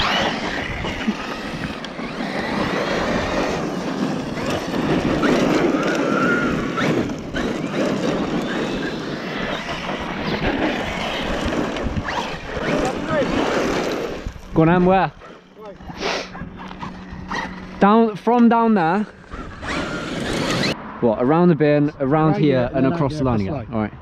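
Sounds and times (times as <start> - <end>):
wind buffeting microphone: 0.0 - 17.8, 19.1 - 24.0
rc truck electric motors whining: 0.0 - 20.8.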